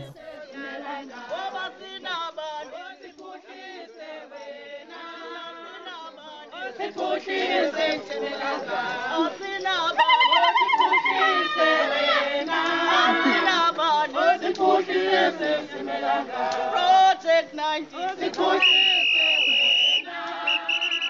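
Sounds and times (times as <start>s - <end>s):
group singing choir-like chant: 0.0s - 21.0s.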